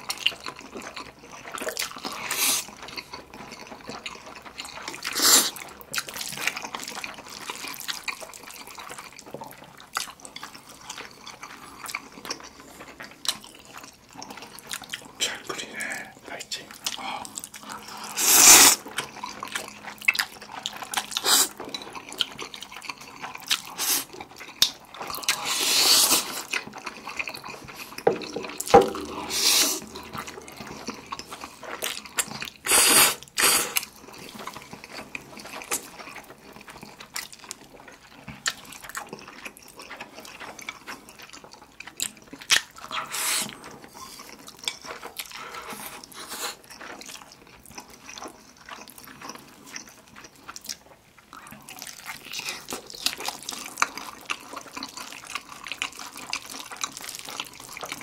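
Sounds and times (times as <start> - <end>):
noodles being slurped: 0.0 - 58.0
wet chewing and lip smacking: 0.0 - 58.0.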